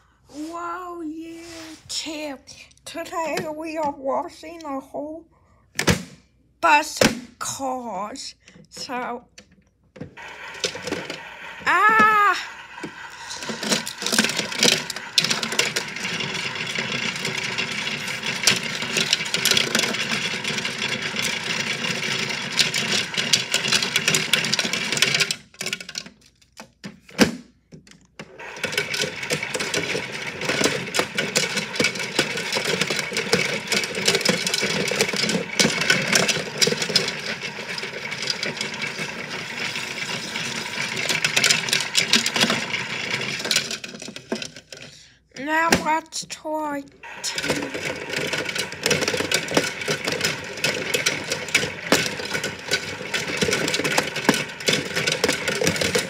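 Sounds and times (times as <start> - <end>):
toy washing machine motor: 8.6 - 9.2, 10.0 - 27.3, 28.1 - 56.0
toy cars rattling in drum: 10.1 - 27.4, 28.2 - 56.0.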